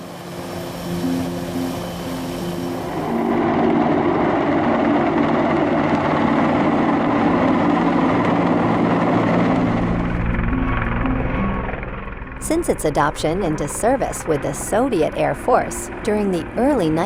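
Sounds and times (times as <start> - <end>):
helicopter rotor and turbine noise: 0.0 - 17.0.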